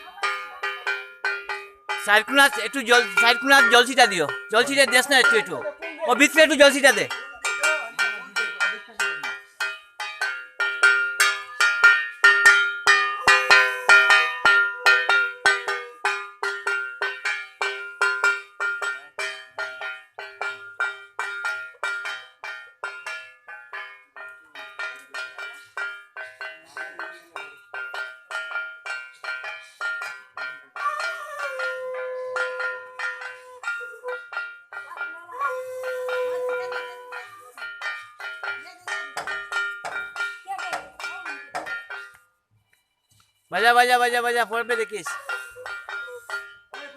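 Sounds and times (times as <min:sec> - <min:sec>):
metal hand bell ringing rapidly: 0:00.0 - 0:42.2, 0:43.8 - 0:46.9.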